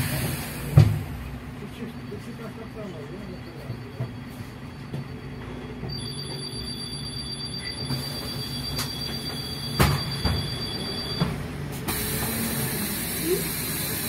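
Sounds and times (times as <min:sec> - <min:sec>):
bus engine and road noise: 0:00.0 - 0:06.8, 0:07.5 - 0:14.0.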